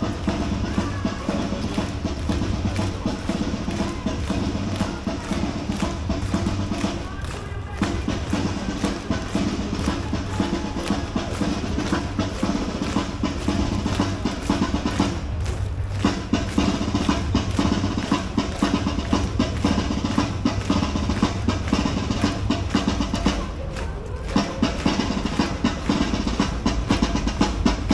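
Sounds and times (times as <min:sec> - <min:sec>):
bass drum: 0:00.0 - 0:27.9
snare drum rolls: 0:00.0 - 0:27.9.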